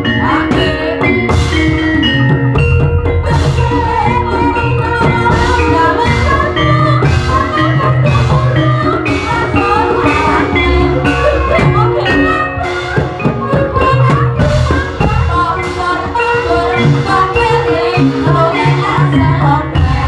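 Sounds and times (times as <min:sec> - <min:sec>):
drum strokes: 0:00.0 - 0:20.0
metallophone tones: 0:00.0 - 0:20.0
wavering singing voice: 0:03.3 - 0:20.0.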